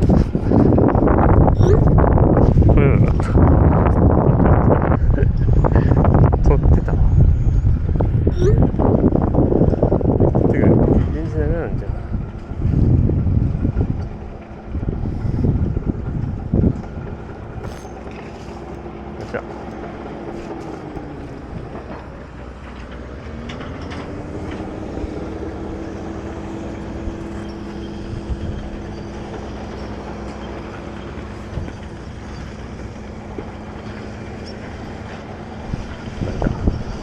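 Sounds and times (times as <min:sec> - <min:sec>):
engine hum: 0:00.0 - 0:37.0.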